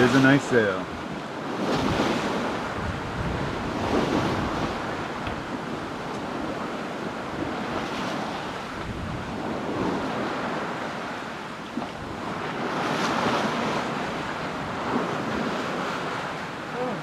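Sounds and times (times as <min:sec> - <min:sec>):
sea splashing along hull: 0:00.0 - 0:17.0
wind buffeting microphone: 0:00.0 - 0:17.0.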